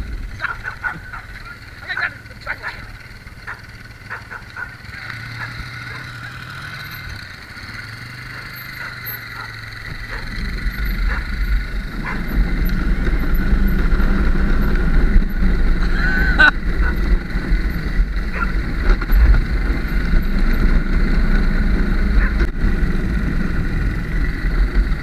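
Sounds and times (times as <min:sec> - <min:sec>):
atv engine rumbling: 0:00.0 - 0:25.0.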